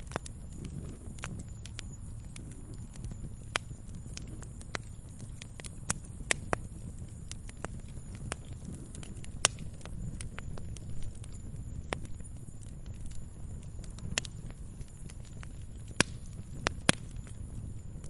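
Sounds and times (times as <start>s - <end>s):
low rumble of flame: 0.0s - 18.0s
wood fire crackling and popping: 0.0s - 18.0s.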